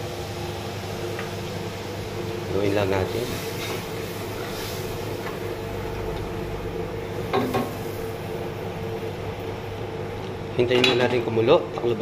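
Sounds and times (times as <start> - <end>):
low mechanical hum with hiss: 0.0 - 12.0.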